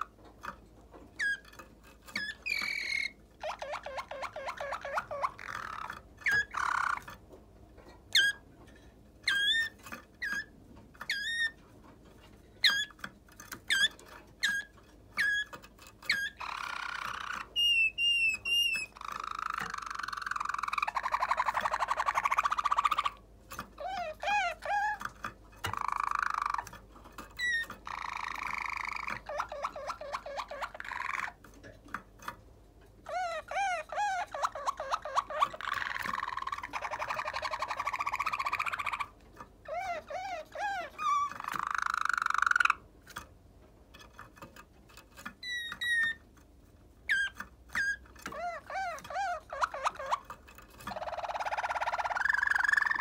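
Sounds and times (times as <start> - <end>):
canary singing: 0.0 - 43.2, 44.0 - 53.0.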